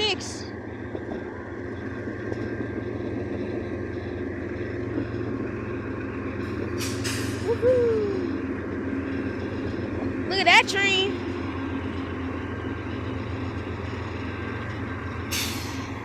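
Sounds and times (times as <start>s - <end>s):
freight train locomotives rumbling: 0.0s - 16.0s.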